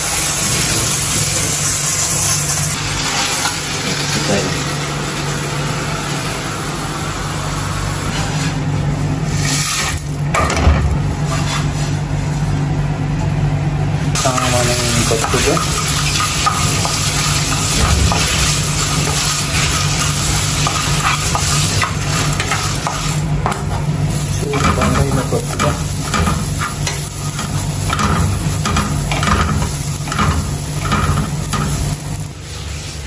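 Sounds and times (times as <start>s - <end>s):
steady hiss of roasting: 0.0s - 10.3s, 14.0s - 33.0s.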